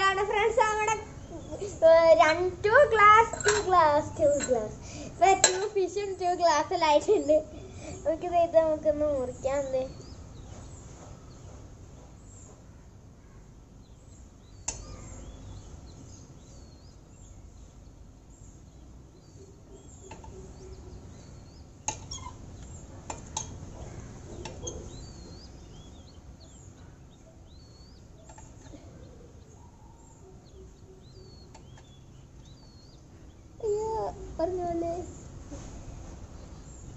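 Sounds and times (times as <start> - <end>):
birds chirping faintly: 0.0 - 36.9.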